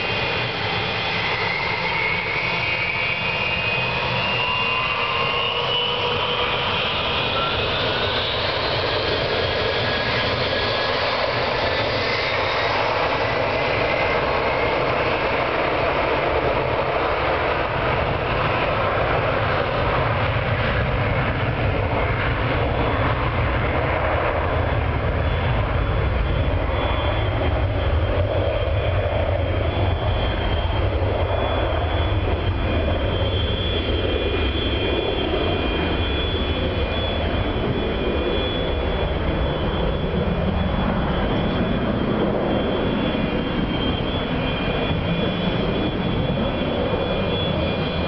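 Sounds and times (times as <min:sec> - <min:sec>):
jet engine roar: 0:00.0 - 0:48.0
jet engine whine: 0:00.0 - 0:48.0.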